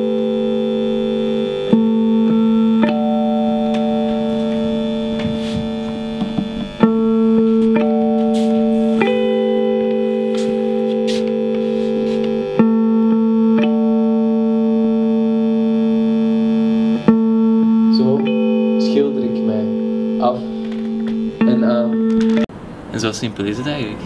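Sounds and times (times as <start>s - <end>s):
electric guitar chords: 0.0s - 22.5s.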